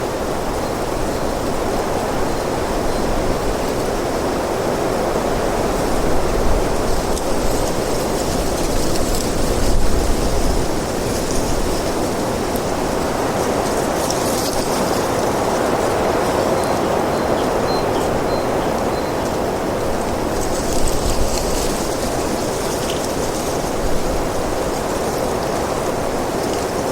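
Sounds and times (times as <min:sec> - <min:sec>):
wind blowing in gusts: 0:00.0 - 0:26.9.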